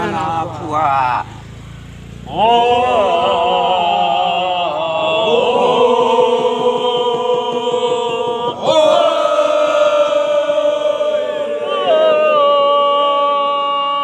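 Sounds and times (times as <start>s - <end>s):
men chanting held notes: 0.0s - 1.3s, 2.3s - 14.0s.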